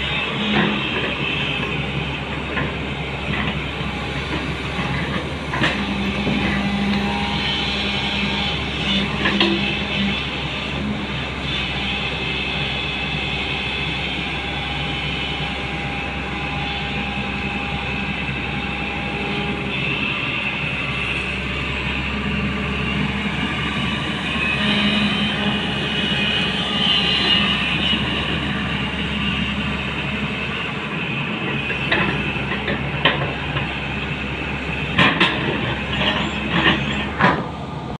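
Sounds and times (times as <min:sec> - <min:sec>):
excavator diesel engine under load: 0:00.0 - 0:38.0
high whine: 0:00.0 - 0:38.0.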